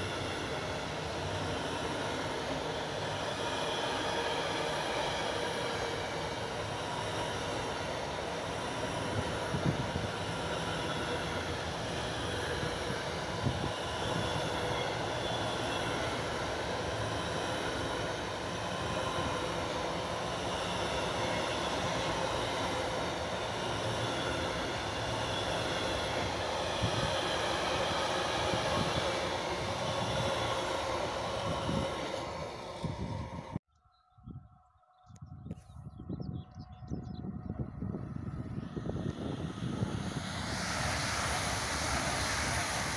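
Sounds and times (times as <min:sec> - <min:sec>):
freight train wheels rumbling: 0:00.0 - 0:33.6, 0:36.7 - 0:42.9.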